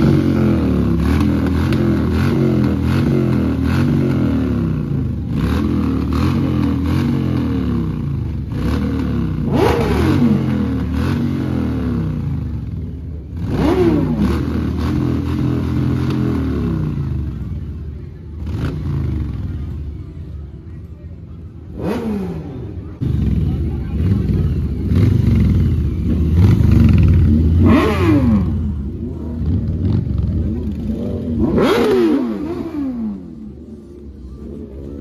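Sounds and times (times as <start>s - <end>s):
motorcycle engines running: 0.0s - 35.0s.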